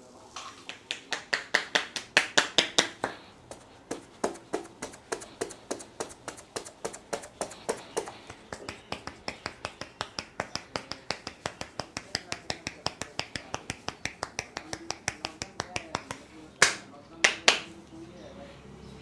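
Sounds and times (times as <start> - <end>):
hands slapping a head: 0.4 - 17.8.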